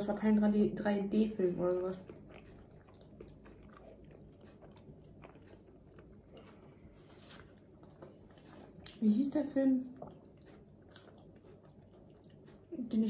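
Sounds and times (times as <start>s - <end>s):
faint chewing of fries: 0.0s - 13.0s.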